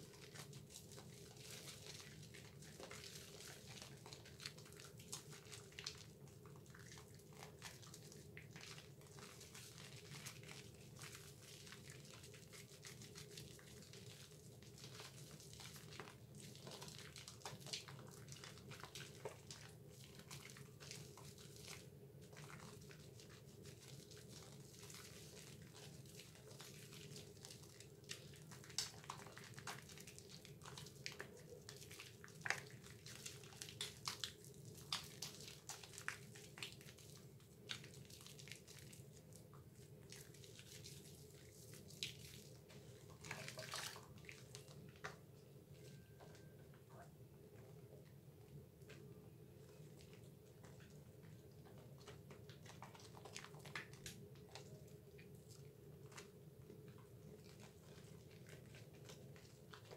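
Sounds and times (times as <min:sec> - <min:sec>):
soap foam squishing: 0:00.0 - 0:46.3, 0:48.8 - 0:59.9
faint steady hum: 0:00.0 - 0:59.9.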